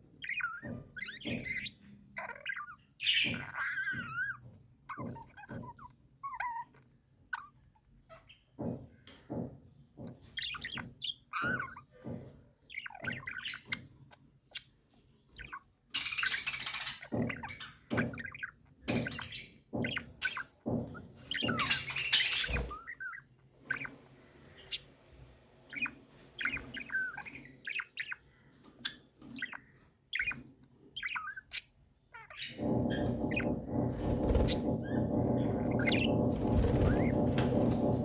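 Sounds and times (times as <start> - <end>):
budgerigar chattering and warbling: 0.2 - 8.8, 10.4 - 13.9, 15.4 - 24.0, 25.7 - 28.2, 28.8 - 30.4, 31.0 - 38.0.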